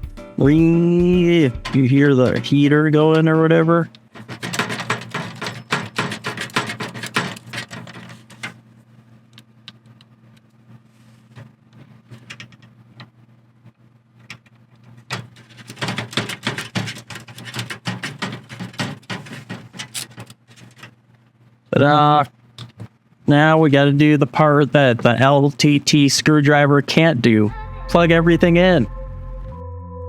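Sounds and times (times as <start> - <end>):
heater humming: 0.0 - 28.8.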